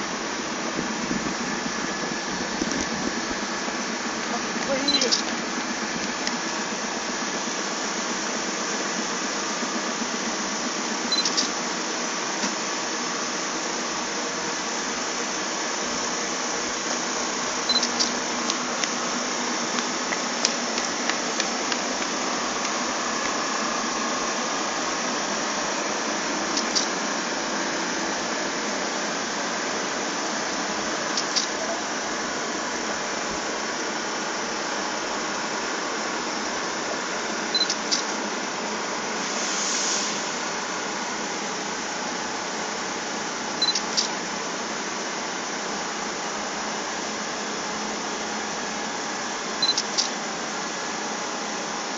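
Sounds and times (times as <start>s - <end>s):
vehicle engine noise: 0.0s - 43.7s.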